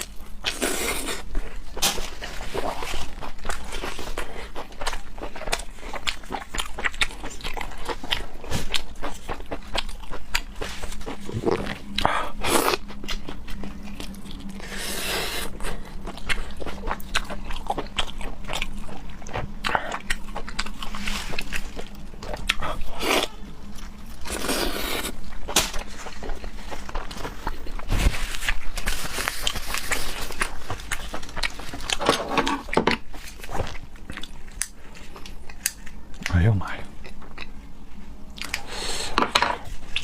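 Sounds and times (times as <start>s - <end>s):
chewing and crunching: 0.0s - 40.0s.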